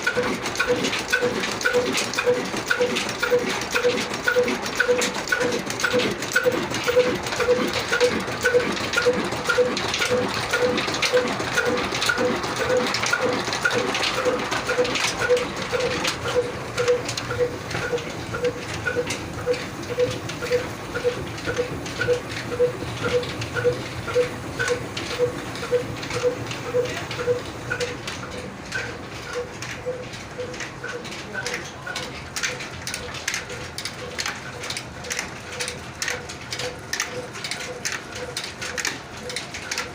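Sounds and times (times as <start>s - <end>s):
diesel engine running steadily: 0.0s - 32.4s.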